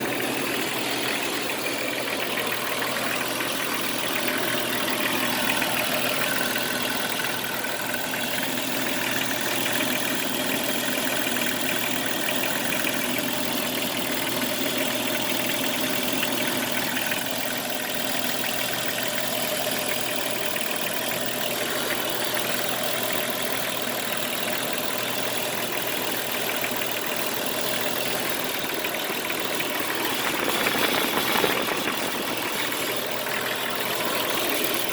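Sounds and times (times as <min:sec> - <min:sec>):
car engine idling: 0:00.0 - 0:34.9
engine rattle: 0:00.0 - 0:34.9.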